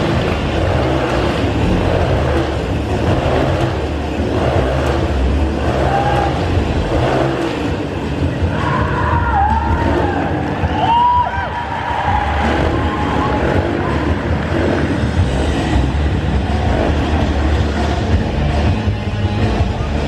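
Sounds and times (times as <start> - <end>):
motor vehicle engines running: 0.0 - 20.0.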